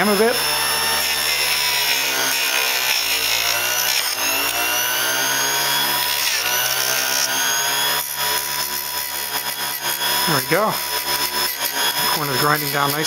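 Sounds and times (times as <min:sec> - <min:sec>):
bench grinder motor running: 0:00.0 - 0:13.0
wood grinding on wheel: 0:00.0 - 0:13.0.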